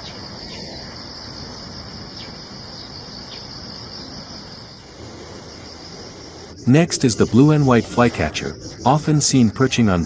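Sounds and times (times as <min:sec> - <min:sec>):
insects singing: 0:00.0 - 0:10.0.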